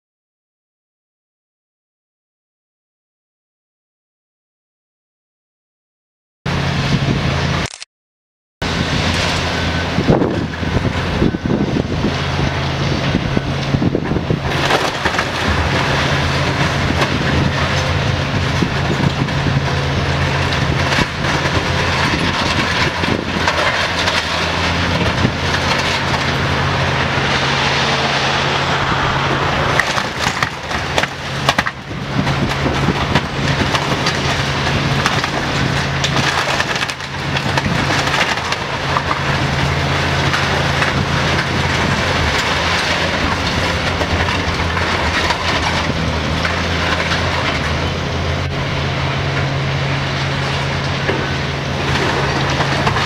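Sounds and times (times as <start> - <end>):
diesel engines droning: 6.5 - 7.7, 8.6 - 53.0
metal structure crunching and tearing: 8.7 - 53.0.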